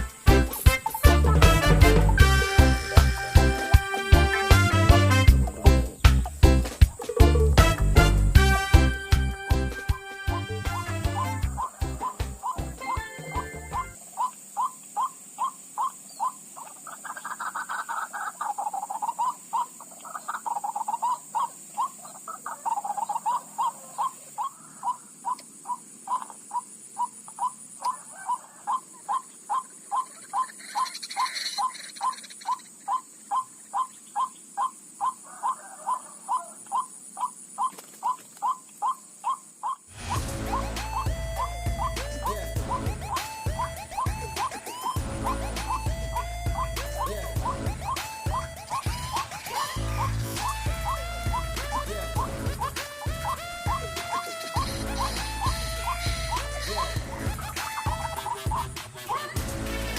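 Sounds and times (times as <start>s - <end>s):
waterhen repeated call: 0.0s - 59.9s
softer longer bird calls: 10.8s - 59.4s.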